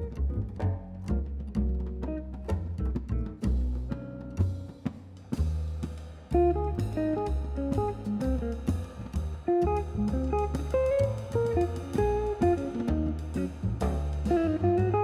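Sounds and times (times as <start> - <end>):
plucked guitar melody: 0.0 - 4.9, 6.3 - 15.0
bass line: 0.0 - 15.0
drum kit beat: 0.6 - 15.0.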